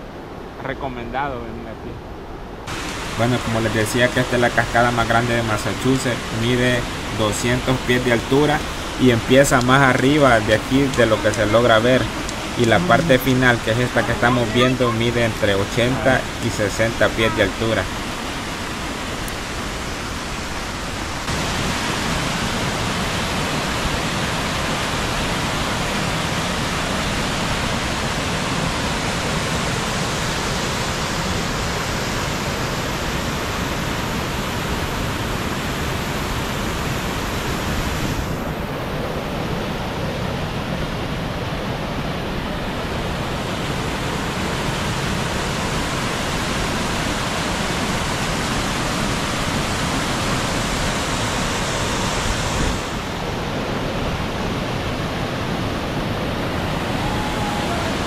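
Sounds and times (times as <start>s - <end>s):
waterfall rushing: 2.6s - 58.0s.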